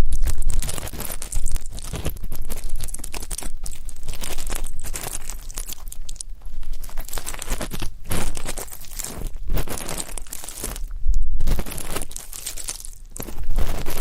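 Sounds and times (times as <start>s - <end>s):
ear pick scratching microphone: 0.0s - 5.2s, 6.0s - 12.4s, 13.0s - 14.0s.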